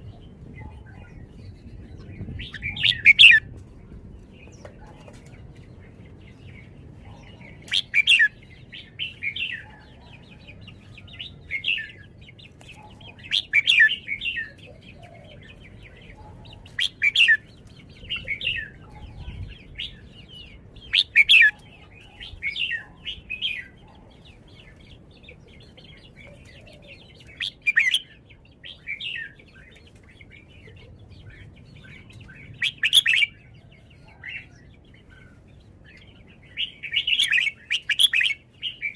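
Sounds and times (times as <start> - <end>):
bird singing warbled phrases: 0.0 - 38.9.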